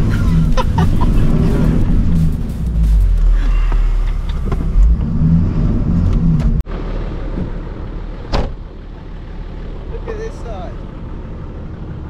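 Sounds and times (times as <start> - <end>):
truck engine working hard: 0.0 - 12.0.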